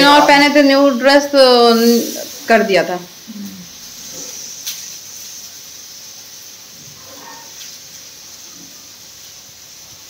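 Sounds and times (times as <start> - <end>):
cheese frying in a pan: 0.0 - 10.0.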